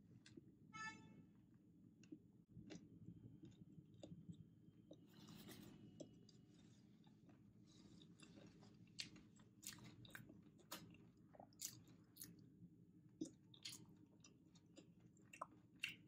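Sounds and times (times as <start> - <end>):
person chewing food: 1.9 - 16.0.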